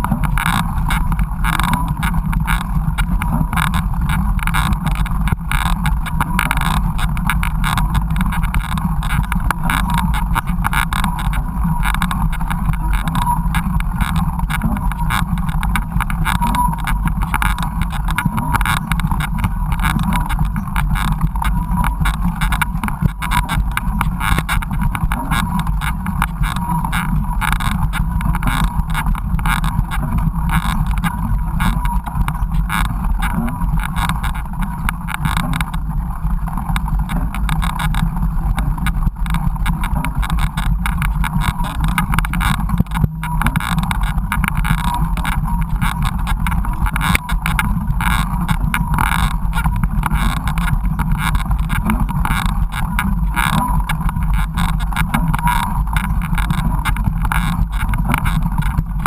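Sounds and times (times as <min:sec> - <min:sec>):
bike ride rumble: 0:00.0 - 0:59.0.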